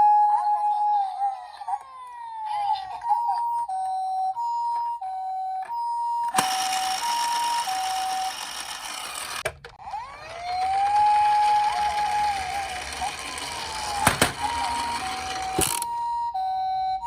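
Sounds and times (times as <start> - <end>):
toy ambulance two-tone siren: 0.0 - 17.0
toy police siren wail: 0.0 - 17.0.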